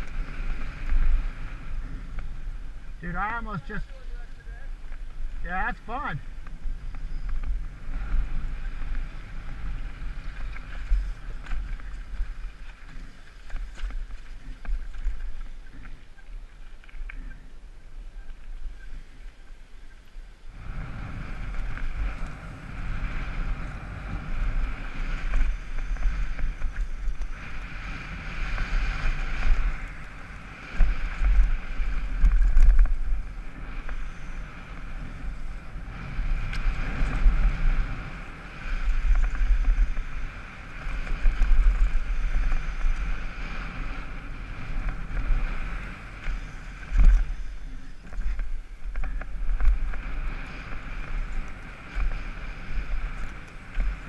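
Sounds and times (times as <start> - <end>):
bike tyres rushing over gravel: 0.0 - 54.0
wind buffeting camera: 0.0 - 54.0.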